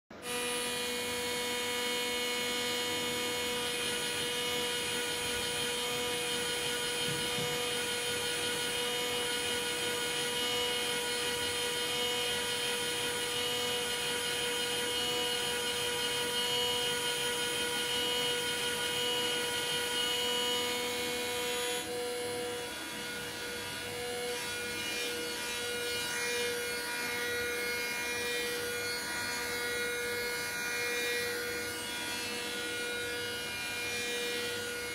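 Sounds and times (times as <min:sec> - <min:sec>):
milling machinery whine: 0:00.2 - 0:34.9.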